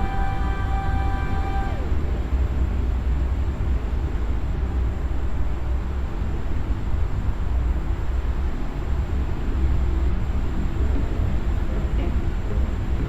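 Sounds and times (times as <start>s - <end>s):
fan running with low rumble: 0.0s - 13.0s.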